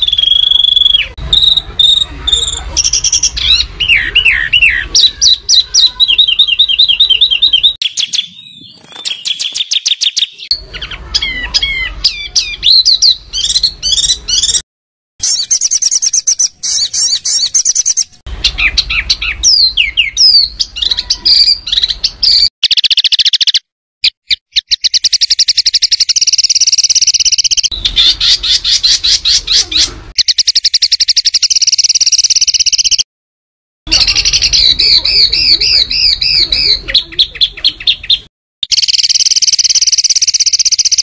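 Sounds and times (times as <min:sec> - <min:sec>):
songbird singing rapid phrases: 0:00.0 - 0:14.6, 0:15.2 - 0:33.1, 0:33.9 - 0:41.0.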